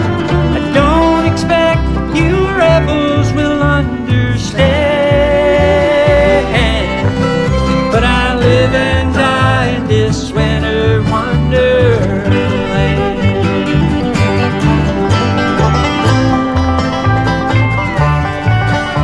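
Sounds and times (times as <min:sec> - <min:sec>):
fiddle melody: 0:00.0 - 0:19.0
steady bass rhythm: 0:00.0 - 0:19.0
strummed guitar: 0:00.0 - 0:19.0.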